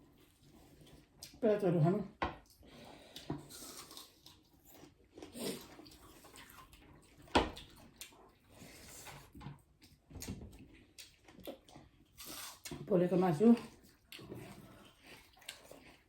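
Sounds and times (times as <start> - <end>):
chewing and wet mouth noises: 0.0 - 1.4, 2.4 - 16.0.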